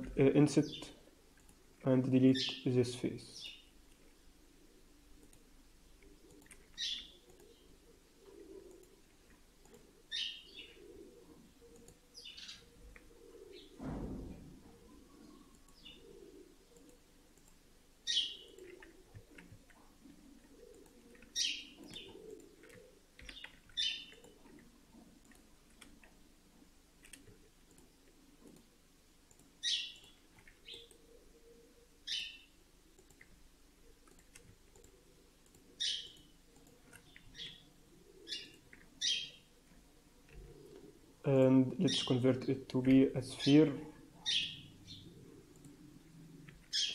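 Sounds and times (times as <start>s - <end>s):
faint bird chirping: 2.1s - 3.8s, 4.7s - 13.8s, 14.5s - 28.7s, 29.3s - 46.9s.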